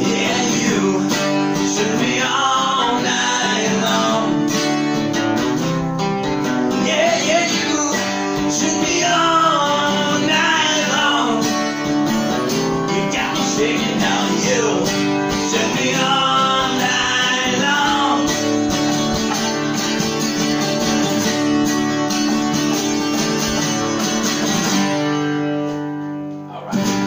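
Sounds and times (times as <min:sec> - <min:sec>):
acoustic guitars strumming rock chords: 0:00.0 - 0:27.0.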